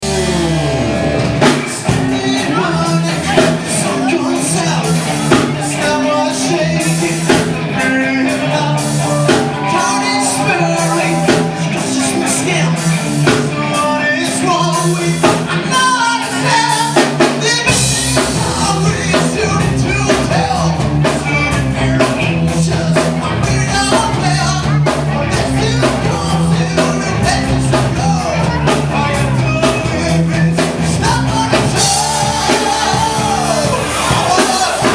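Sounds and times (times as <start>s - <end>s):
drum kit beat: 0.0s - 34.9s
rock band playing live: 0.0s - 34.9s.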